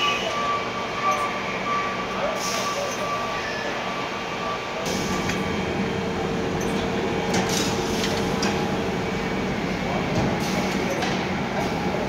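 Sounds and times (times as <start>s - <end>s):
testing machines humming: 0.0s - 12.0s.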